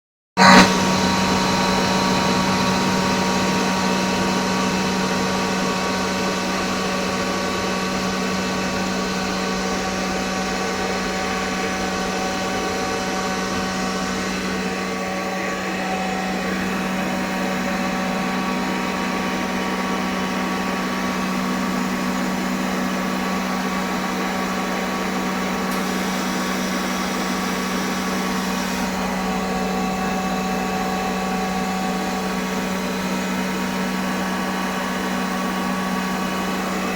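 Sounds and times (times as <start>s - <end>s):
air compressor humming: 0.4s - 36.9s.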